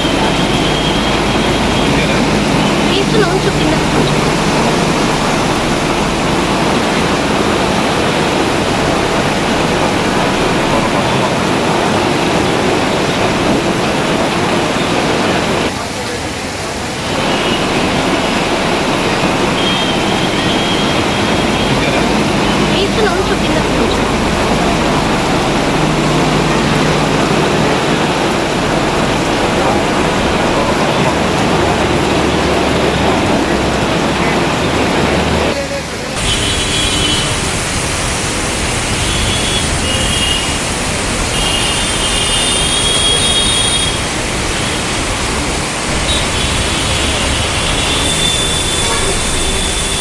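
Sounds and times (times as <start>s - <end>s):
heavy rain and flood water rushing: 0.0s - 50.0s.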